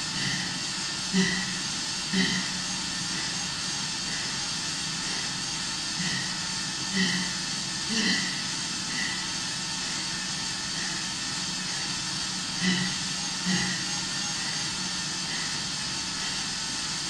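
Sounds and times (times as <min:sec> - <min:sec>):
heavy breathing through mask: 0:00.0 - 0:16.5
exercise bike brake whirring: 0:00.0 - 0:17.0.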